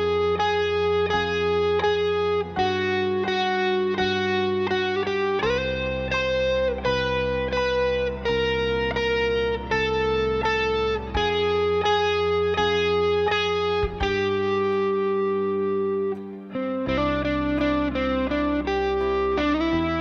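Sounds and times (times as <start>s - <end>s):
electric guitar melody: 0.0s - 20.0s
low bass line: 0.0s - 20.0s
plucked guitar chords: 0.0s - 20.0s.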